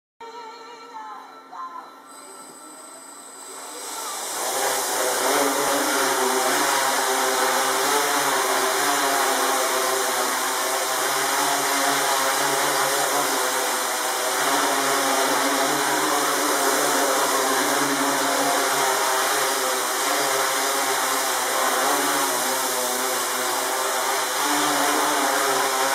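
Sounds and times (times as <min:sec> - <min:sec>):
drone motors buzzing: 0:02.2 - 0:25.9.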